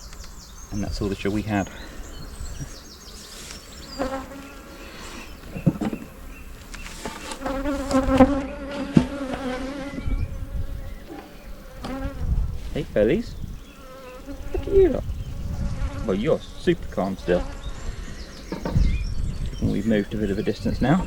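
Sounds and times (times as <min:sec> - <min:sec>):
honeybees buzzing: 0:00.0 - 0:18.9.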